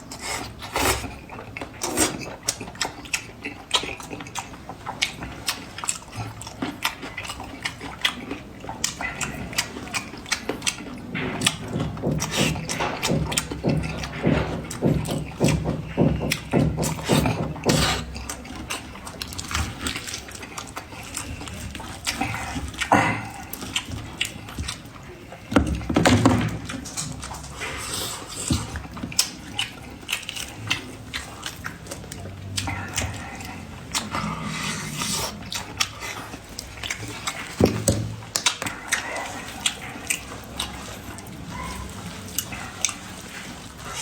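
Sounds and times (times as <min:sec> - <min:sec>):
chewing and lip smacking: 0:00.0 - 0:44.0.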